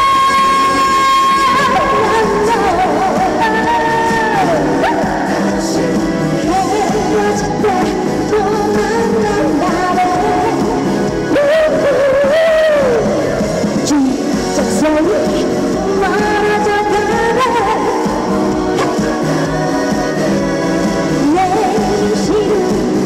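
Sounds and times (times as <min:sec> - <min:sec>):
pop backing track: 0:00.0 - 0:23.0
woman singing: 0:00.0 - 0:23.0.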